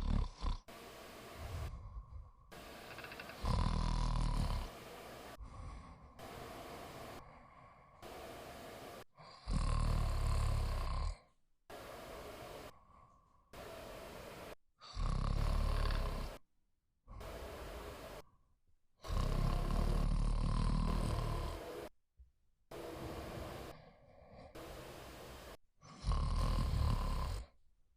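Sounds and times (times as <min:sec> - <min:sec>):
person snoring: 0:00.0 - 0:16.4, 0:17.1 - 0:18.3, 0:19.0 - 0:21.9, 0:22.7 - 0:27.6
quiet breaths: 0:00.0 - 0:16.4, 0:17.1 - 0:21.9, 0:22.7 - 0:27.6.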